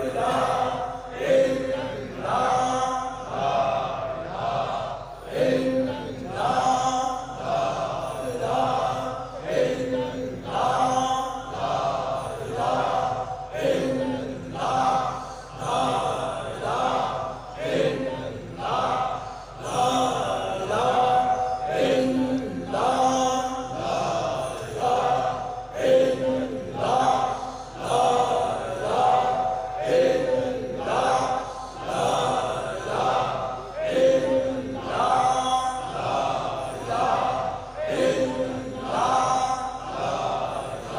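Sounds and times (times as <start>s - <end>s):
men chanting: 0.0s - 40.9s.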